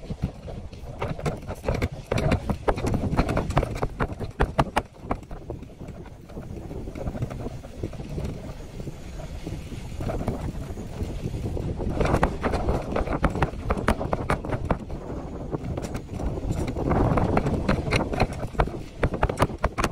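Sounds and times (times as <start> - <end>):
bicycle tyres rumbling on dirt: 0.0 - 19.9
bike basket clicks and rattles: 0.0 - 19.9
wind on microphone: 0.0 - 19.9.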